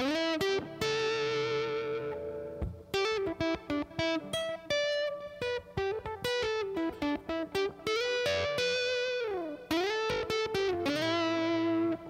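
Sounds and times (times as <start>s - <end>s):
electric guitar lead line: 0.0s - 12.0s.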